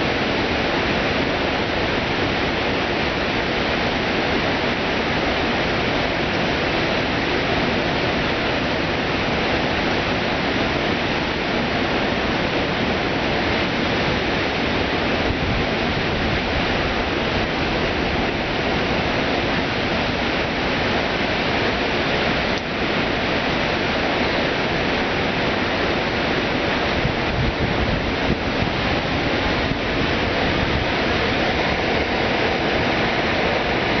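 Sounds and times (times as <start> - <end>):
water pouring over a dam: 0.0 - 34.0.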